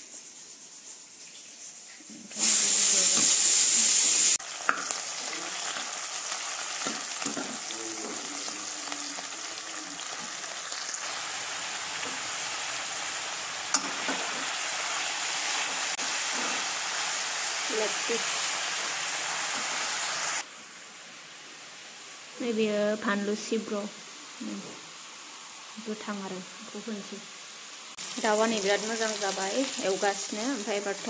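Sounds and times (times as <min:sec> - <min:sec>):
onions sizzling in hot oil: 0:02.3 - 0:31.0.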